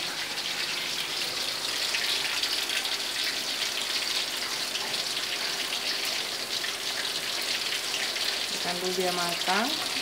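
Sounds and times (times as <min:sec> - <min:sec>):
fish deep-frying in oil: 0:00.0 - 0:10.0.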